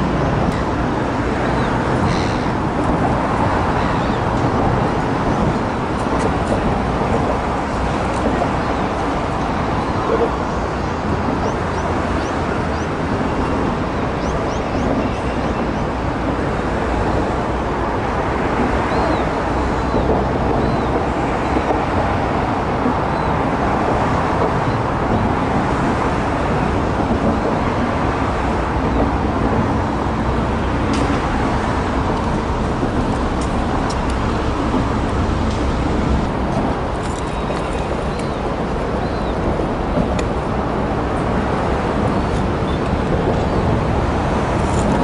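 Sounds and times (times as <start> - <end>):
traffic rumble: 0.0 - 45.0.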